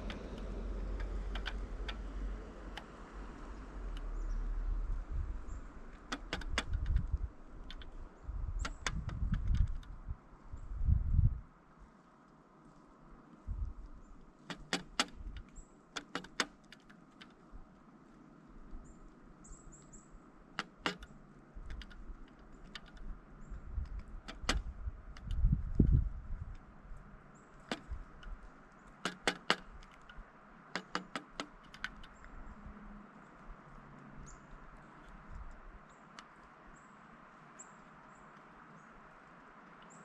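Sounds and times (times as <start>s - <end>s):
woodpecker pecking: 0.0s - 2.8s, 5.5s - 10.0s, 13.8s - 40.0s.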